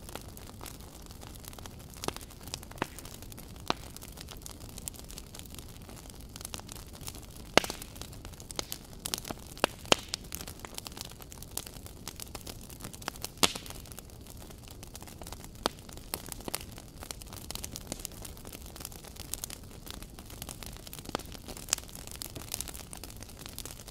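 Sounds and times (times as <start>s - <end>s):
fire crackling and popping: 0.0s - 23.9s.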